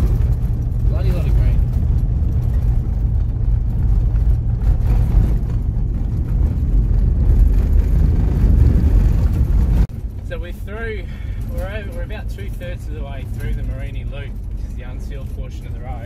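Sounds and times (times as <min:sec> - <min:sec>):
vehicle driving on gravel road: 0:00.0 - 0:16.0.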